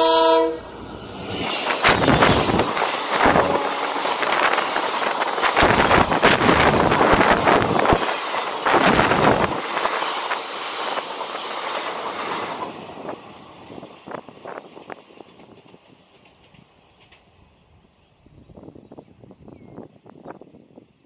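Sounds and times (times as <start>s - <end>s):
passenger train passing: 0.0s - 20.6s.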